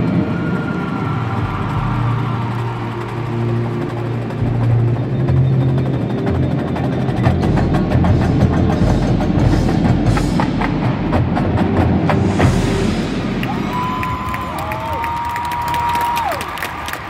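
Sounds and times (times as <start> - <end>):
marching band playing: 0.0 - 16.3
percussion strikes: 1.3 - 15.0.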